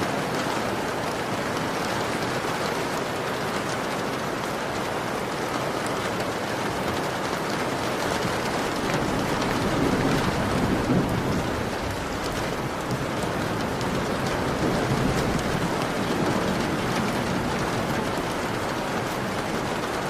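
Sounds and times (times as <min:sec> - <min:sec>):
heavy rain on a window: 0:00.0 - 0:20.0.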